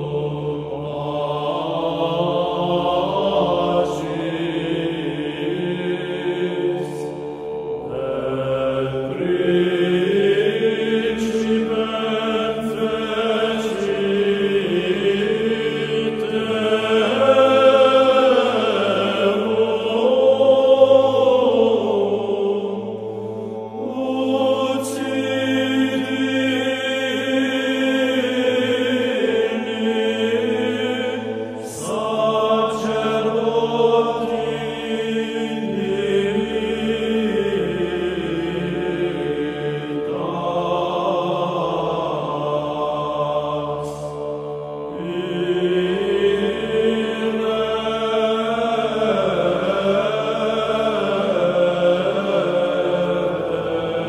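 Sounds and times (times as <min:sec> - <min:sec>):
chant sung in long phrases: 0:00.0 - 0:54.0.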